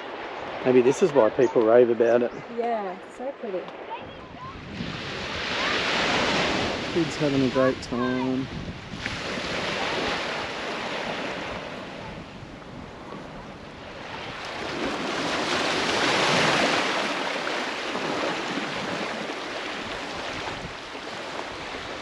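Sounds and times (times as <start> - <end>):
ocean waves washing onto beach: 0.0 - 22.0.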